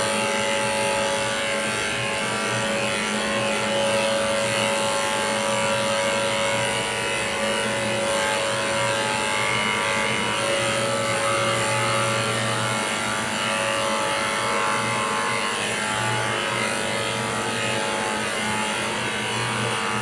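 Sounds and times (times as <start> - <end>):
electric clipper humming: 0.0 - 20.0.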